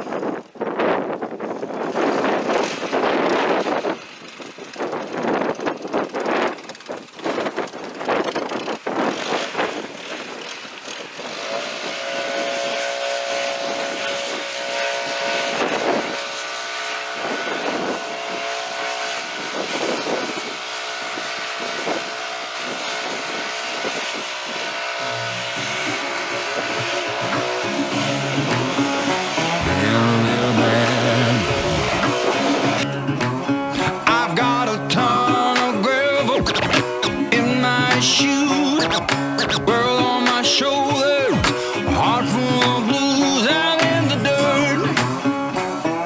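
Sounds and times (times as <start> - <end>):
wind buffeting microphone: 0.0 - 43.1
droning hum with held tones: 1.9 - 45.9.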